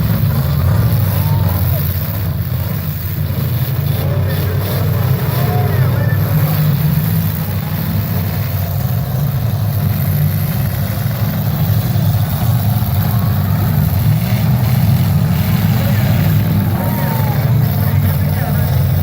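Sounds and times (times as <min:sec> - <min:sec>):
car engines rumbling: 0:00.0 - 0:19.0.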